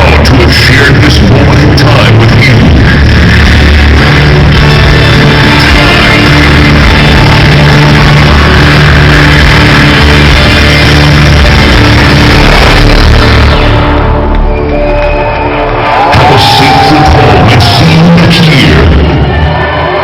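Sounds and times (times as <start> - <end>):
hardstyle dance music: 0.0 - 20.0.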